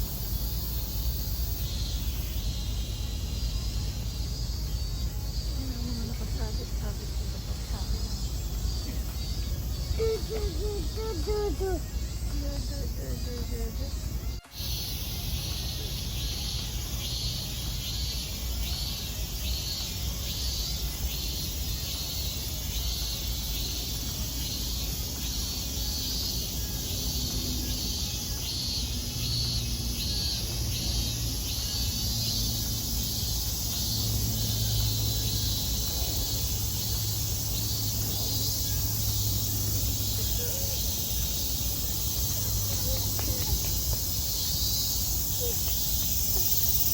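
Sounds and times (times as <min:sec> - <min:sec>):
cicadas singing: 0:00.0 - 0:46.9.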